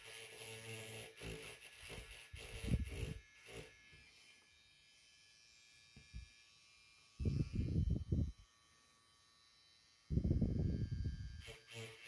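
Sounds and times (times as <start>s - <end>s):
grinding pen buzzing: 0.0s - 12.0s.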